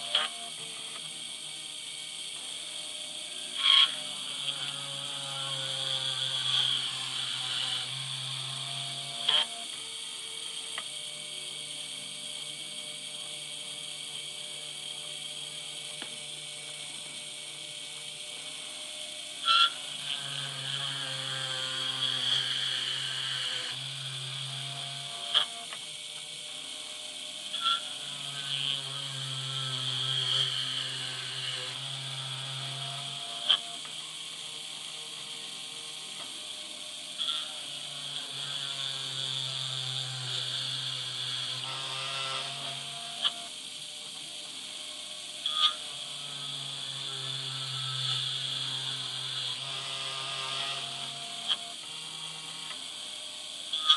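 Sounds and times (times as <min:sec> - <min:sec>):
drilling machine whining: 0:00.0 - 0:53.9.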